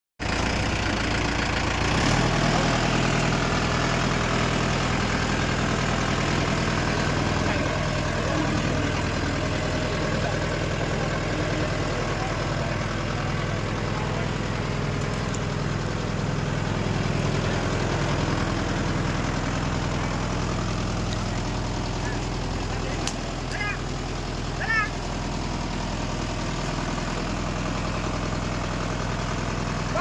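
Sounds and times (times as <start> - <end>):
tractor engine running: 0.2 - 30.0.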